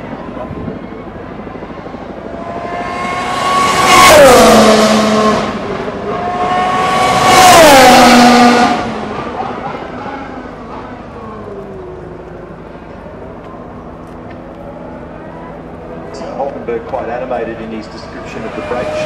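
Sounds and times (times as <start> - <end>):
racing cars passing at speed: 1.7 - 19.0.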